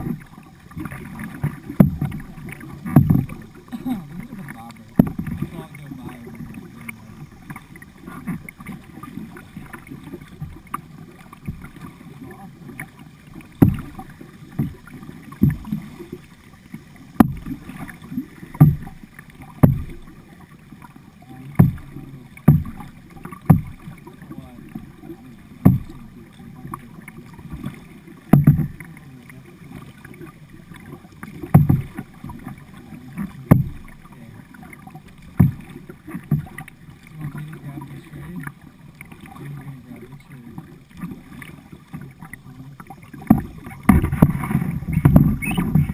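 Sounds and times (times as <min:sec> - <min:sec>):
floodwater rushing: 0:00.0 - 0:45.9
paddle knocking with splash: 0:00.0 - 0:45.9.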